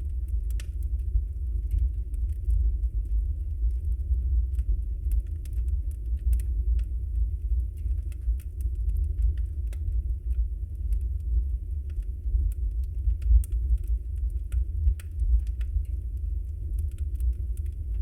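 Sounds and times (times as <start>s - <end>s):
burning logs crackling: 0.0s - 18.0s
low rumble of fire: 0.0s - 18.0s.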